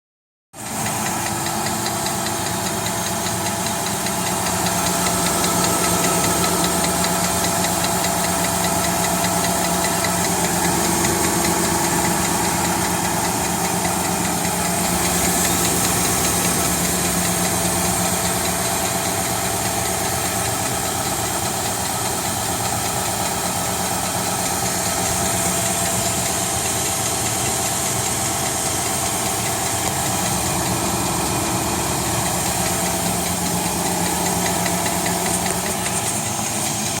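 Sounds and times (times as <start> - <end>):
truck engine idling: 0.6 - 37.0
fast regular clicking: 0.8 - 37.0.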